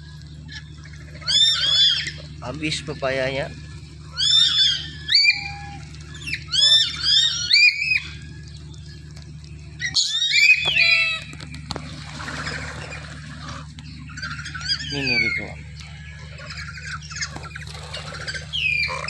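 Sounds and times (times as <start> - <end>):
parrots screeching: 0.5 - 8.3, 9.8 - 11.5, 12.1 - 19.0.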